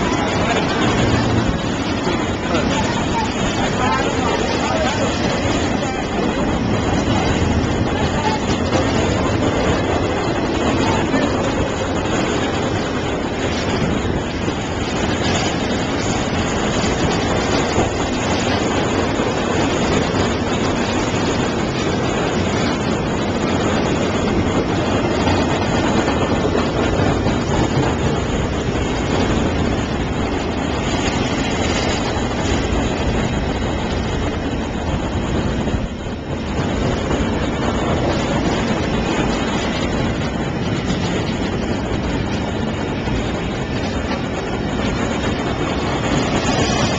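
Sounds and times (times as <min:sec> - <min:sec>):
freight train wheels on rails: 0:00.0 - 0:46.9.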